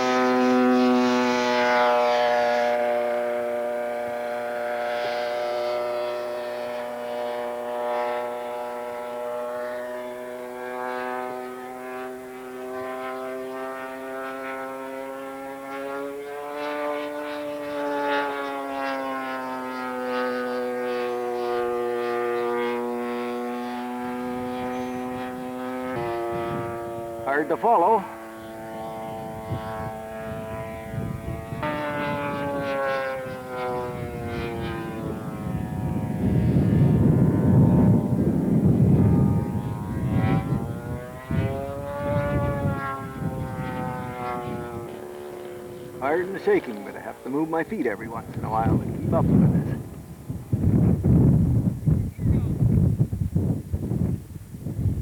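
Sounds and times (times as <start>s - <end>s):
model airplane engine buzzing: 0.0s - 55.0s.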